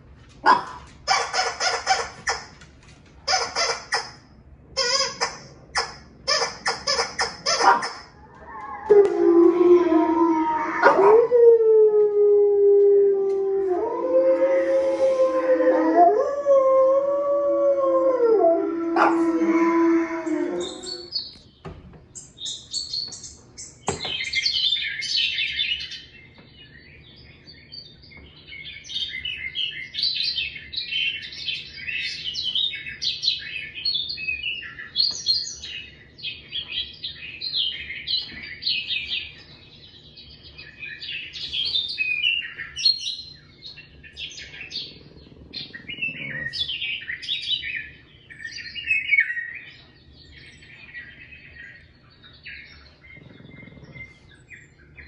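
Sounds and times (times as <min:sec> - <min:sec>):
songbirds chirping through tv speakers: 0:00.0 - 0:55.0.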